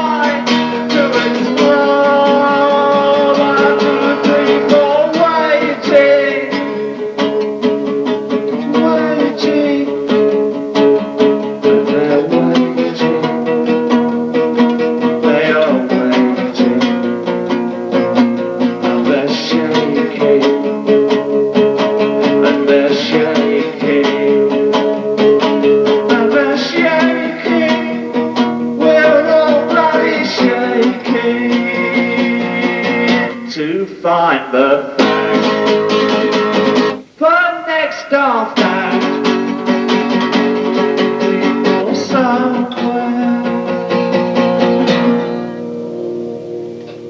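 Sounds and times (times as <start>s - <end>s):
acoustic guitar strumming chords: 0.0s - 47.0s.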